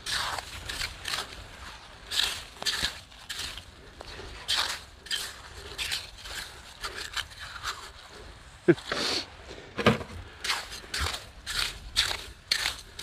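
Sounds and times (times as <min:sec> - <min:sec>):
hand rake scraping wet sand: 0:00.0 - 0:13.0.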